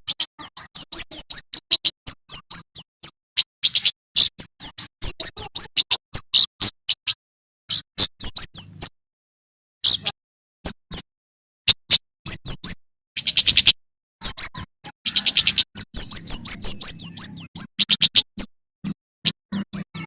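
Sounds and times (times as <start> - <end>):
bird singing high chirps and trills: 0.0 - 9.0, 9.8 - 11.0, 11.8 - 20.0.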